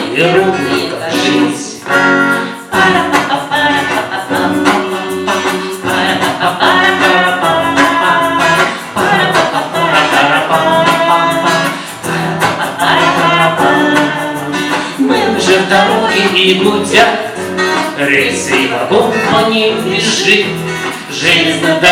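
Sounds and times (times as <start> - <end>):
acoustic guitar: 0.0 - 21.9
people singing: 0.0 - 21.9.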